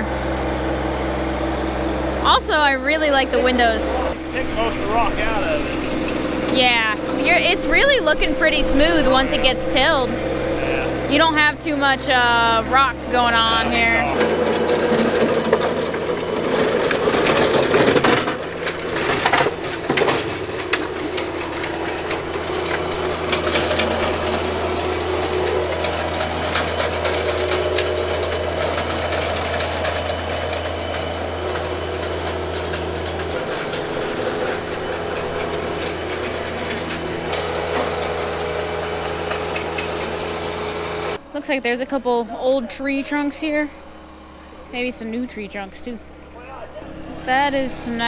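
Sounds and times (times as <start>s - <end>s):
tiller tines churning soil: 0.0s - 48.0s
tractor diesel engine under load: 0.0s - 48.0s.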